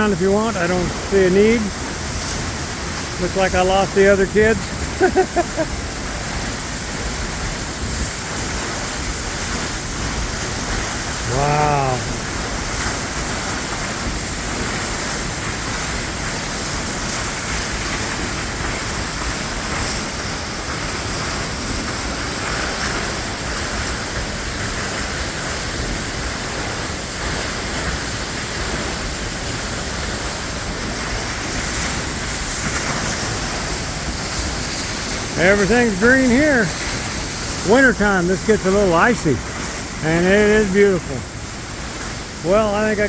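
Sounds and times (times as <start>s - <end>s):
waterfall pouring onto rocks: 0.0s - 43.0s.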